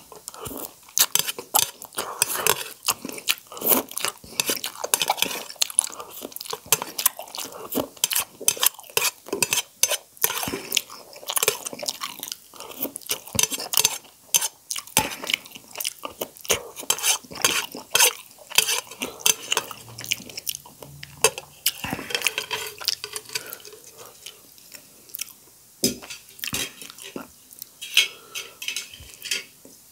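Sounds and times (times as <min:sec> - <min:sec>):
slurping and wet chewing: 0:00.1 - 0:25.5, 0:26.3 - 0:29.2.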